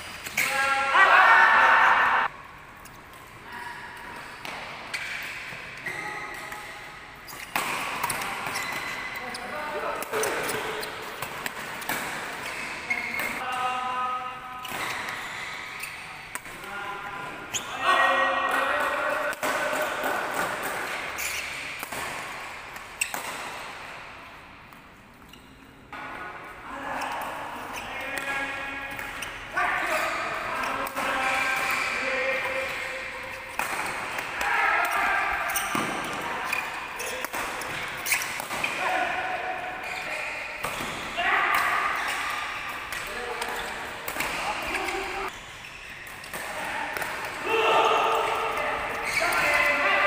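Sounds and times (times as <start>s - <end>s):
background noise: 0.0s - 50.0s
rackets hitting shuttlecock: 4.1s - 13.4s, 14.6s - 16.7s, 18.4s - 26.4s, 28.0s - 49.8s.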